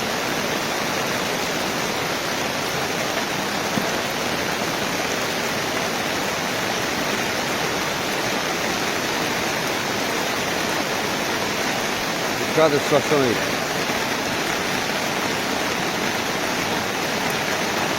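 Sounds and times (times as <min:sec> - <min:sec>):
floodwater rushing: 0:00.0 - 0:17.9.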